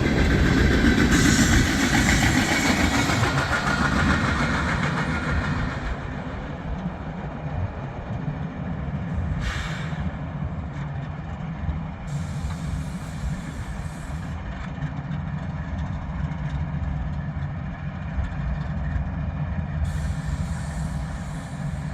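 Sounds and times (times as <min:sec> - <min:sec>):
freight train rumbling by: 0:00.0 - 0:21.9.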